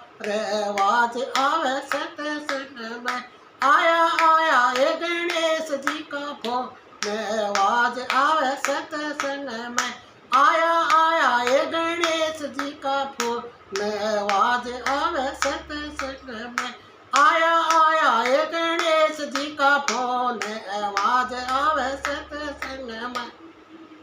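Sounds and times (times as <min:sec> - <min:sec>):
devotional singing: 0:00.0 - 0:23.4
hand-clapping in time: 0:00.2 - 0:23.4.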